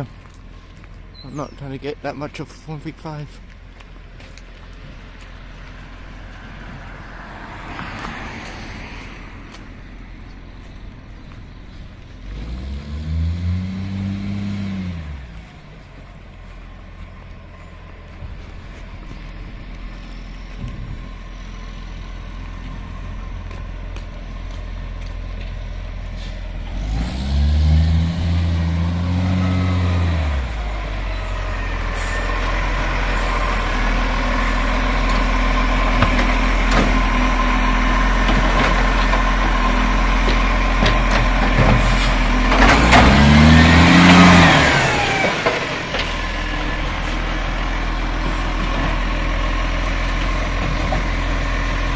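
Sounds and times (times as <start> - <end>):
diesel truck engine revving: 4.7 - 51.9.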